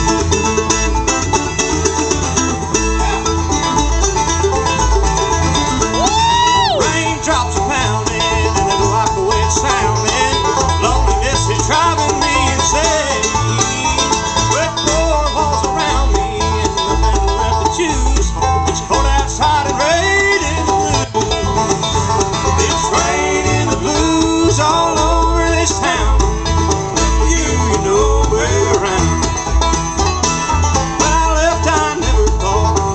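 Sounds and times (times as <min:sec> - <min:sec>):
acoustic guitar: 0:00.0 - 0:32.9
banjo: 0:00.0 - 0:32.9
mandolin: 0:00.0 - 0:32.9
upright bass: 0:00.0 - 0:32.9.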